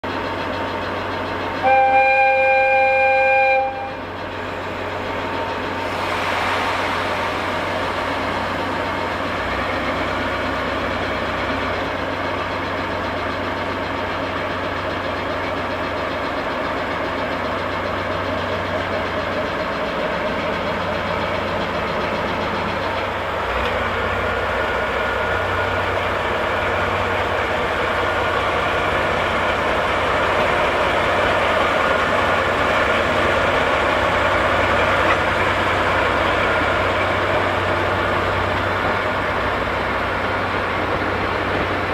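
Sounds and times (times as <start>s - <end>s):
diesel locomotive engine idling: 0.0s - 41.9s.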